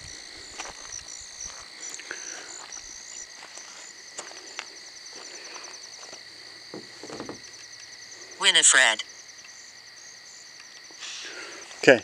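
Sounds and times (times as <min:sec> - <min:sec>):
insect chirping: 0:00.0 - 0:12.0
insects trilling: 0:00.0 - 0:12.0.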